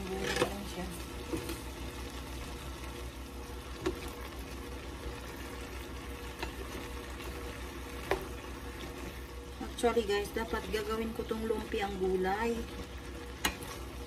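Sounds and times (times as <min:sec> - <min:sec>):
meat and vegetables sizzling in pan: 0:00.0 - 0:14.0
spatula stirring in pan: 0:00.0 - 0:14.0.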